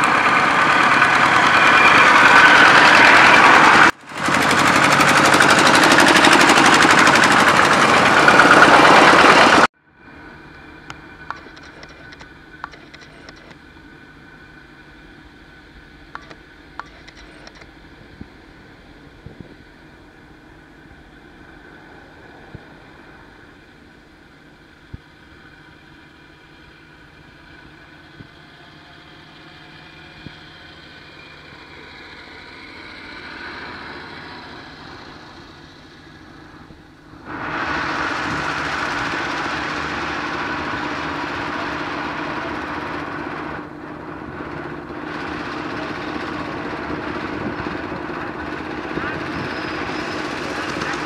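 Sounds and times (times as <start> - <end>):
tractor engines running: 0.0 - 51.0.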